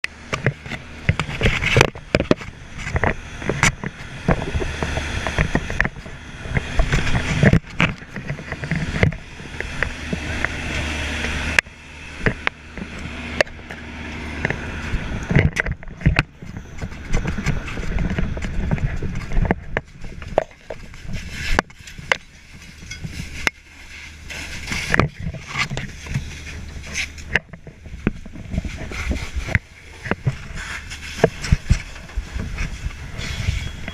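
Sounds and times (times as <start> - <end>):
diesel engine humming: 0.0 - 33.9
gear knocking and rubbing: 0.0 - 33.9.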